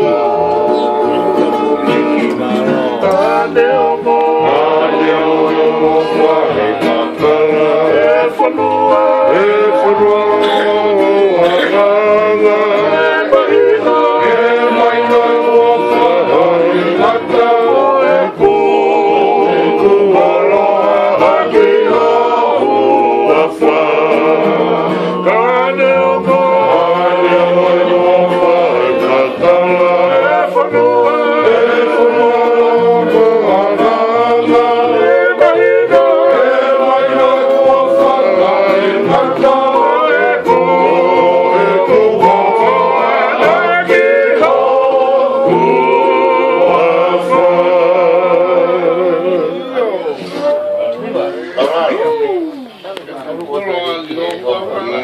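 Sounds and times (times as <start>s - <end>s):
men singing together: 0.0s - 50.6s
strummed acoustic guitars: 0.0s - 52.0s.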